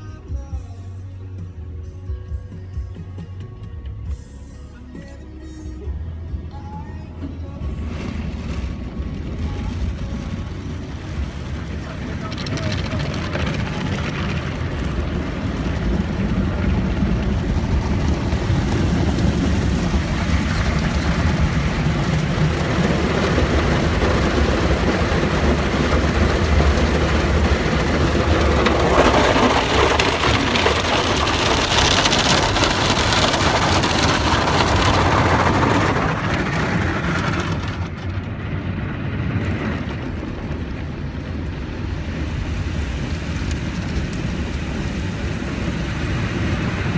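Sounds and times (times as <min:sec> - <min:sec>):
low machinery rumble: 0:03.8 - 0:46.9
water spray drumming on car: 0:07.8 - 0:46.9.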